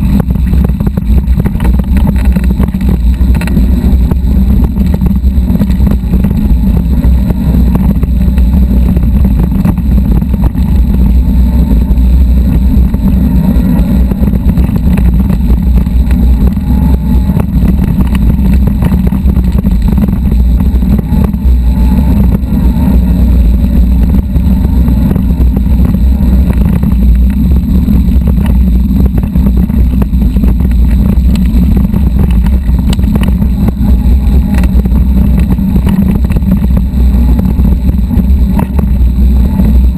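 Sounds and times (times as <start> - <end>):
bike rattles and gravel ticks: 0.0 - 39.9
wind buffeting microphone: 0.0 - 39.9.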